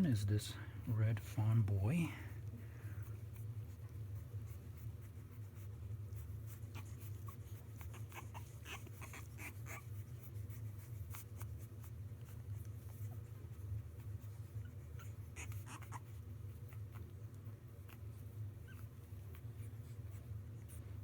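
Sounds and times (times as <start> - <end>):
puppy scratching and shuffling: 0.0 - 21.0
steady low hum: 0.0 - 21.0.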